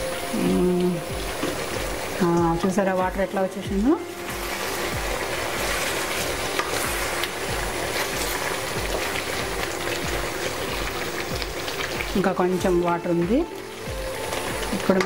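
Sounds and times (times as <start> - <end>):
chicken bubbling and sizzling: 0.0 - 15.0.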